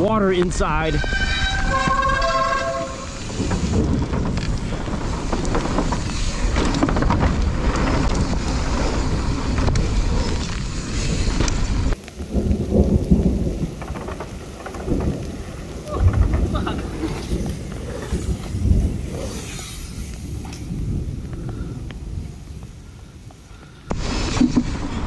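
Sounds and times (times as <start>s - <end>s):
heavy pouring rain: 3.0s - 25.0s.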